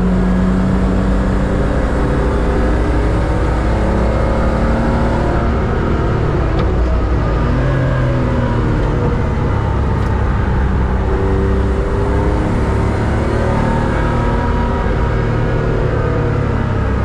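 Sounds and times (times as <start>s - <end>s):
race car engine: 0.0s - 17.0s
road and wind noise: 0.0s - 17.0s.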